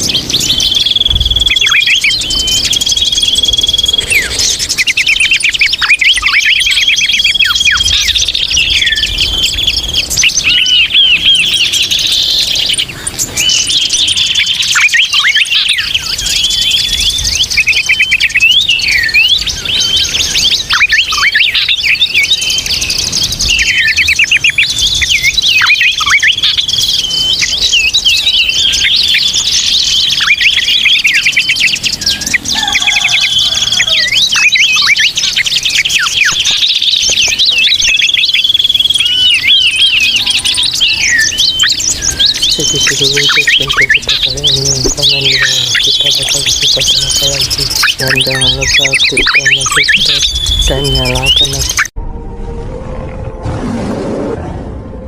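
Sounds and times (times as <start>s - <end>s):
high bird whistle: 0.0s - 52.0s
small birds chirping and twittering: 0.0s - 52.0s.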